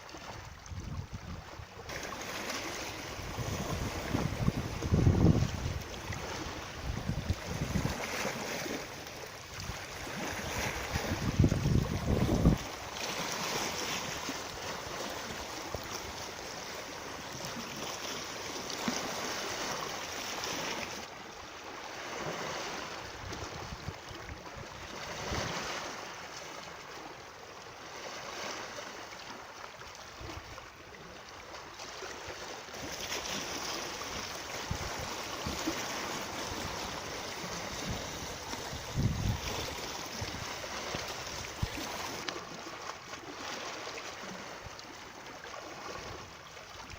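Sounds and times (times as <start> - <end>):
flowing water rushing: 0.0 - 46.9.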